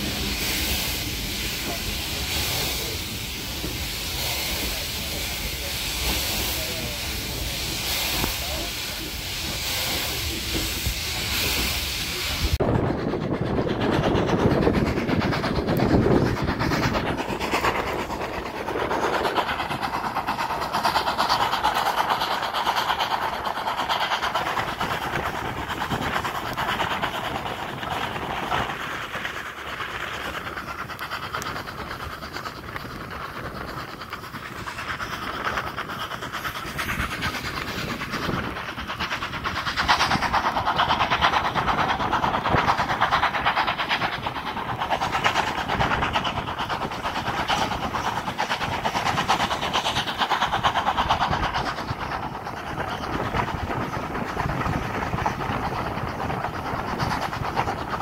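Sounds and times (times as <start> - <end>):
railway carriage running noise: 0.0 - 58.0
steam hissing in pulses: 0.0 - 58.0.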